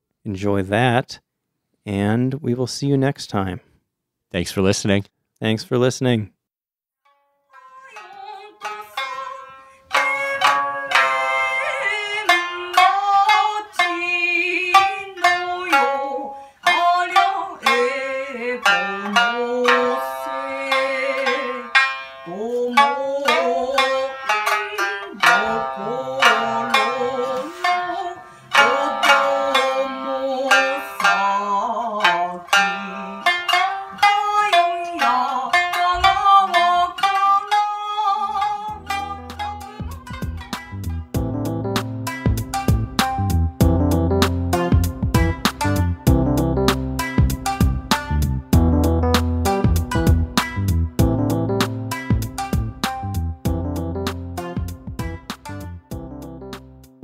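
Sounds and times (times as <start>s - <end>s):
shamisen plucked: 7.1s - 57.0s.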